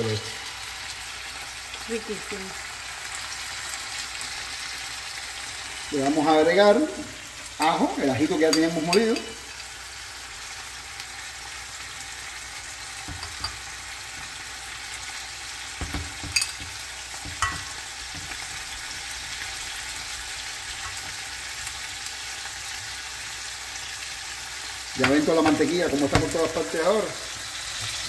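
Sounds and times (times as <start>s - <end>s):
fish sizzling in butter: 0.0s - 28.0s.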